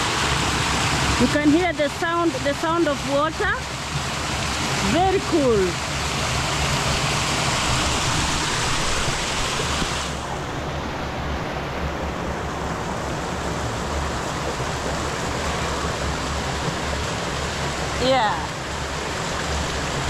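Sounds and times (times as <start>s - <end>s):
river rushing over stones: 0.0s - 20.0s.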